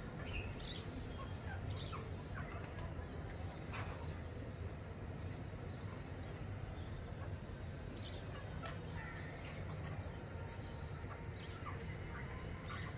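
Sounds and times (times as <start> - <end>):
birds calling: 0.0 - 12.9.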